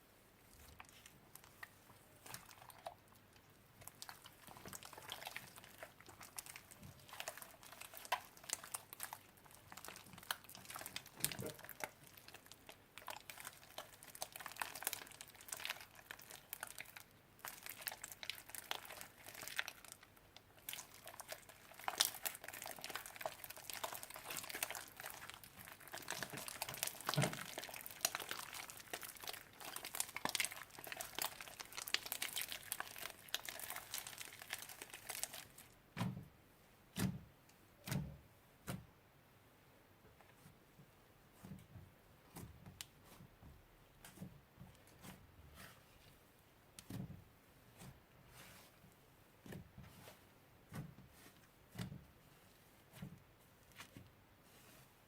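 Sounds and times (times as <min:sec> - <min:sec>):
slime squishing and crackling: 0:00.5 - 0:36.1, 0:41.3 - 0:55.0.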